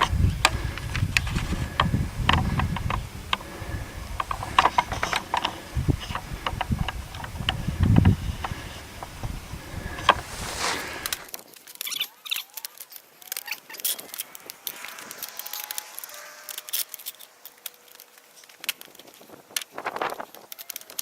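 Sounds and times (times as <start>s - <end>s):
wood cracking and clicking: 0.0s - 10.2s, 11.0s - 21.0s
boards and nails squeaking: 0.0s - 21.0s.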